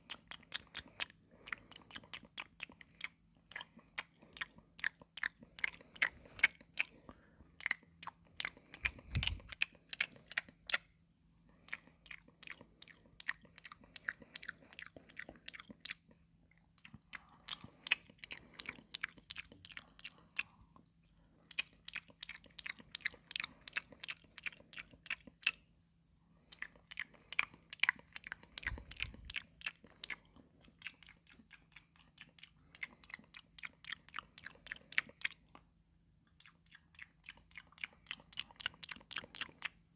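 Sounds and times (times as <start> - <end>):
chewing crunchy cucumber: 0.0 - 39.9.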